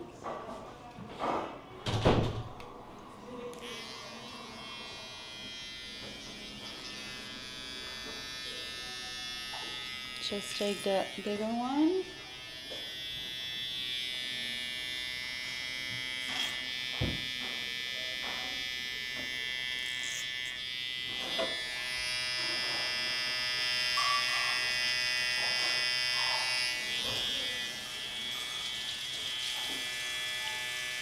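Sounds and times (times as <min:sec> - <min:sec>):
electric hair clipper buzzing: 0:03.4 - 0:31.0.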